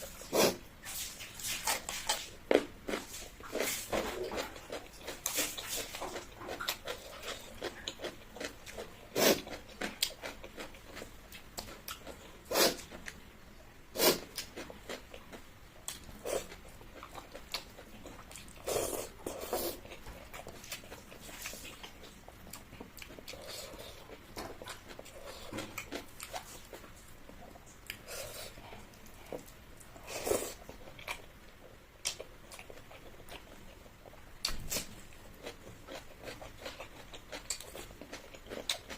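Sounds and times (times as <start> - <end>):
person chewing: 0.0 - 13.2, 14.0 - 38.9.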